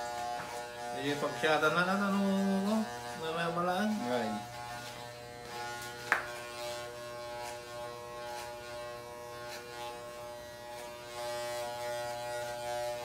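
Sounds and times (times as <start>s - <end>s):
hair clippers buzzing: 0.0s - 13.0s.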